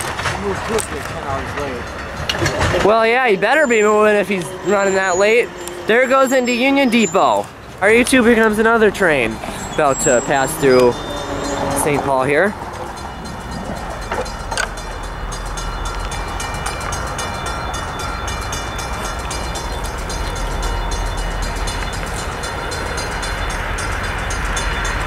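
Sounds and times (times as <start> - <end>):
diesel locomotive engine rumble: 0.0 - 25.0.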